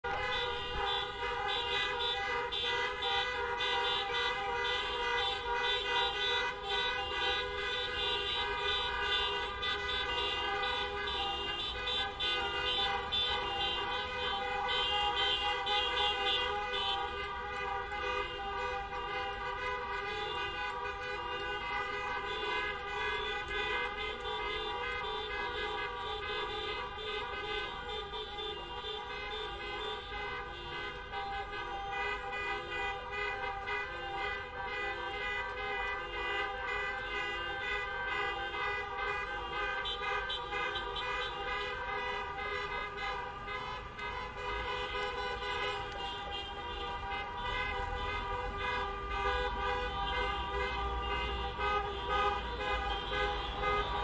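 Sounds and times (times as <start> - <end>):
low traffic rumble: 0.0 - 54.0
many car horns honking: 0.0 - 54.0.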